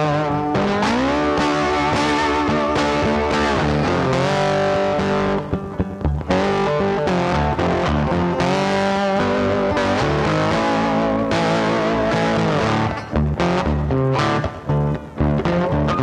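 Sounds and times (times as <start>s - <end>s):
electric guitar background music: 0.0s - 16.0s.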